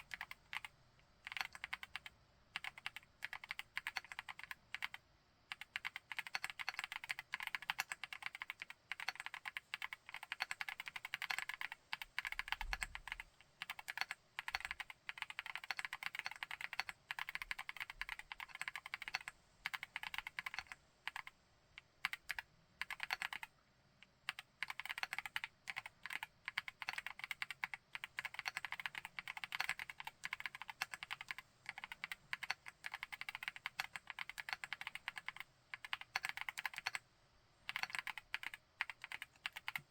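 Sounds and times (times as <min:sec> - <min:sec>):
typing on mechanical keyboard: 0:00.0 - 0:21.4, 0:22.0 - 0:23.6, 0:24.2 - 0:37.0, 0:37.7 - 0:39.9.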